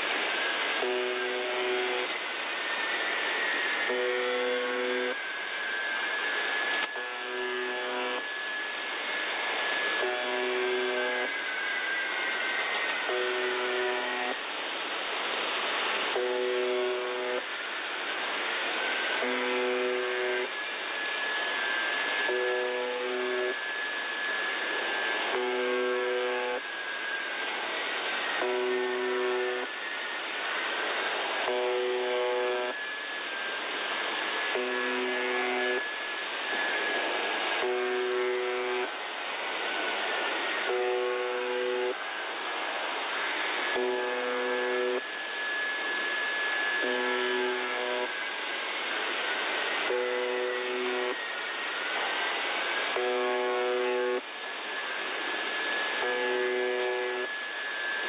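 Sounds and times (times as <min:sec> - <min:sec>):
rough low radio buzz: 0:00.0 - 0:58.0
steady radio hiss: 0:00.0 - 0:58.0.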